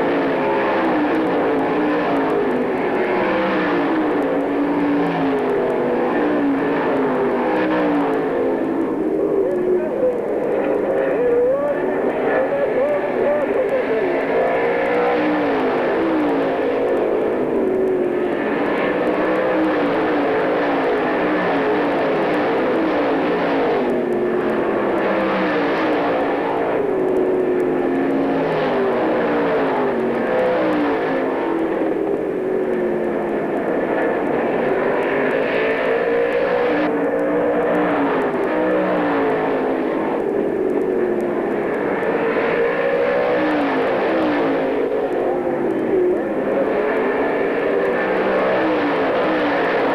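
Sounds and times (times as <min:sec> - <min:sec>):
race car engines passing: 0:00.0 - 0:49.9.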